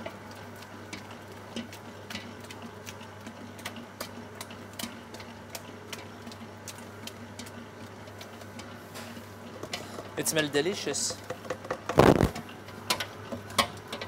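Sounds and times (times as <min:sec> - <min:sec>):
dough mixer motor hum: 0:00.0 - 0:14.0.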